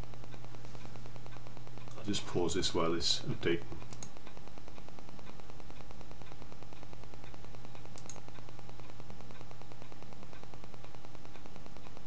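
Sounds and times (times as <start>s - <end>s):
faint ticks: 0.0s - 2.2s, 2.8s - 12.0s
low electrical hum with hiss: 0.0s - 12.0s.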